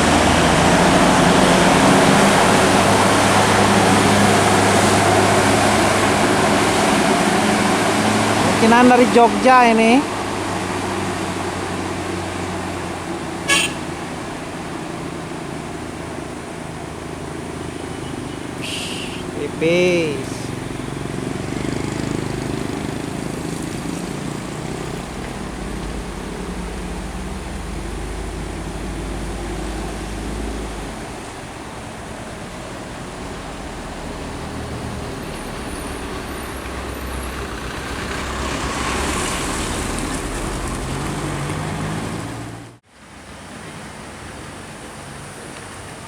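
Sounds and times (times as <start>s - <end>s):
faint traffic noise: 0.0s - 46.0s
heavy vehicle engine passing: 0.0s - 46.0s.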